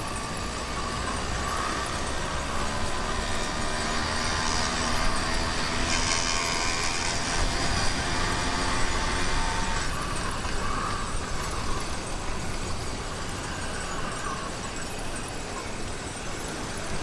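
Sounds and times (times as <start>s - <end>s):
motorized bicycle engine buzz: 0.0s - 17.0s.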